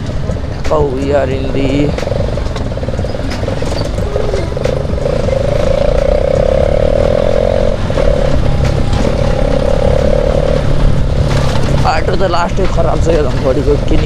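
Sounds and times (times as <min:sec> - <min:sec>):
motorcycle engine with loud exhaust: 0:00.0 - 0:14.0.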